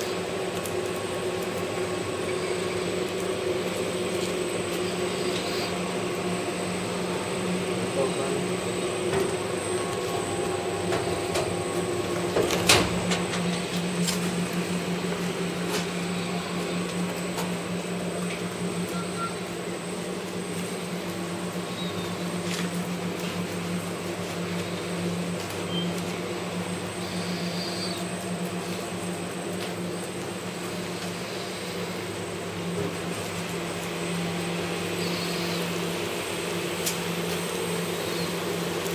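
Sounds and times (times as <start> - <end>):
machinery hum: 0.0 - 38.9.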